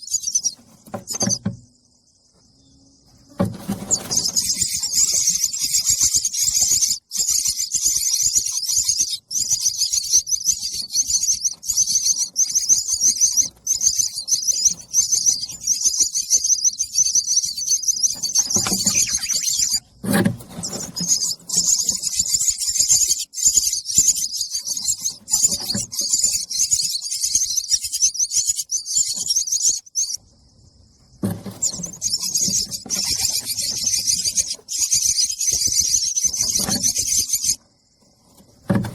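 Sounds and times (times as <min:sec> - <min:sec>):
nestlings begging chirps: 0:00.0 - 0:30.4, 0:31.0 - 0:37.6.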